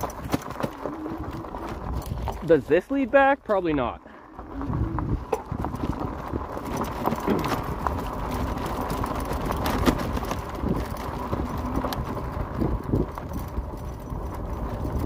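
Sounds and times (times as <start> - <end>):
bike tyres crunching on gravel: 0.0 - 15.0.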